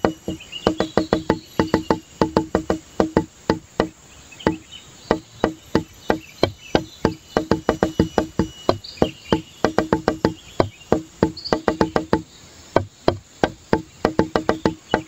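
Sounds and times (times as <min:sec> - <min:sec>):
faint high insect-like trill: 0:00.0 - 0:15.0
wood-block-like clicking beat: 0:00.0 - 0:15.0.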